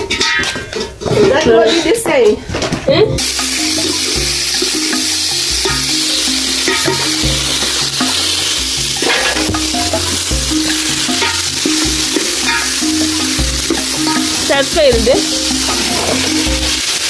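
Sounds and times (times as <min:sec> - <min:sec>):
background music with bass line: 0:03.2 - 0:16.9
food sizzling in a pan: 0:03.2 - 0:17.0.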